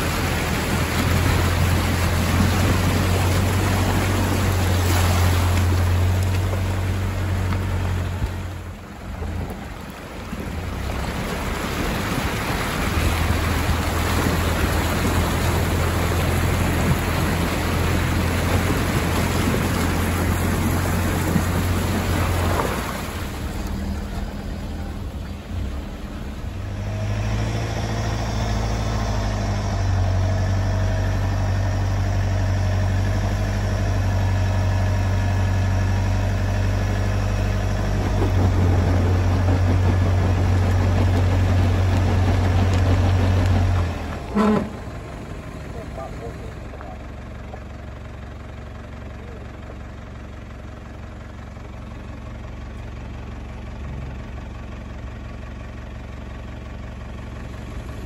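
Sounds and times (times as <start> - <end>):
creek water rushing: 0.0 - 47.4
car engine idling: 0.0 - 58.0.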